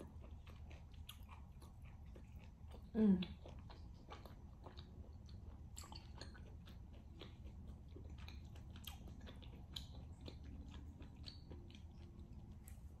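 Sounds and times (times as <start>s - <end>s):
low steady hum: 0.0s - 13.0s
person chewing: 0.0s - 13.0s.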